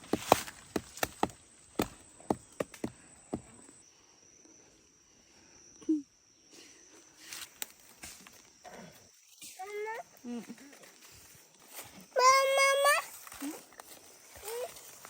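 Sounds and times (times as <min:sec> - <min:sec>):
insect high-pitched tone: 0:01.4 - 0:15.0.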